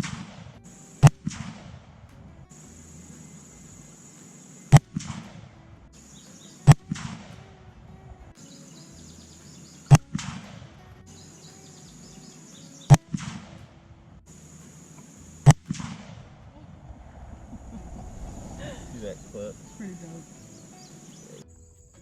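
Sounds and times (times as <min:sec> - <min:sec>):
faint high-pitched buzz: 0:00.0 - 0:22.0.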